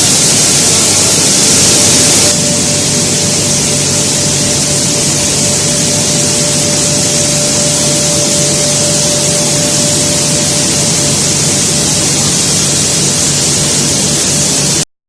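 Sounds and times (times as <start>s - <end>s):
low hum: 0.0s - 14.8s
milling machinery hissing: 0.0s - 14.8s
constant machine whine: 0.0s - 14.9s.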